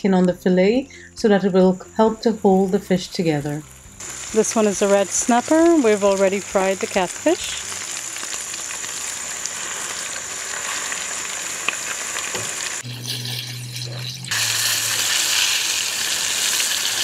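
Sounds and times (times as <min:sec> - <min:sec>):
fish fillets sizzling in oil: 0:02.7 - 0:17.0.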